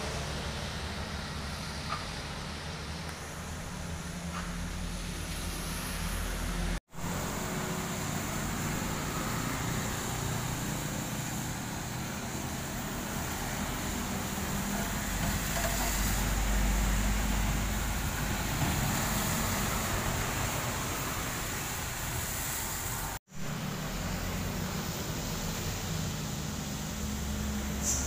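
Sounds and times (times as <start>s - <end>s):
truck diesel engine passing: 0.0s - 28.0s
tyre noise on wet road: 0.0s - 28.0s.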